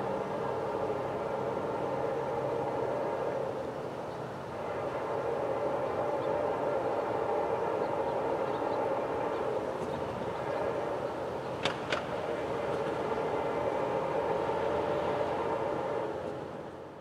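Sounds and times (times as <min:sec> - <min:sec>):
diesel locomotive drone: 0:00.0 - 0:17.0.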